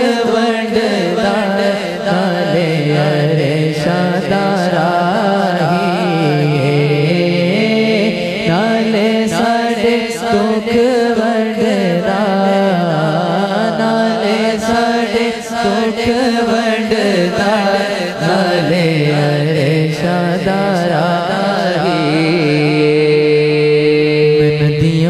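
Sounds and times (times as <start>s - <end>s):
man singing into a microphone: 0.0s - 25.0s.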